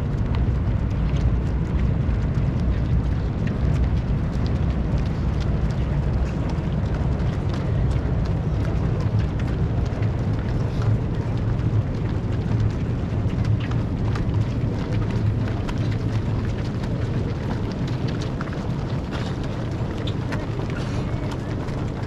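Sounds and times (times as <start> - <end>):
runners' footsteps pattering: 0.0 - 22.0
steady low rumble: 0.0 - 22.0.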